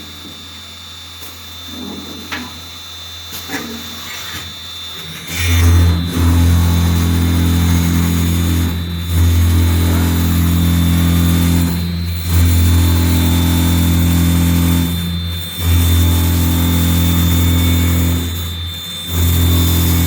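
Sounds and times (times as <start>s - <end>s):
drilling machine motor humming: 0.0s - 20.0s.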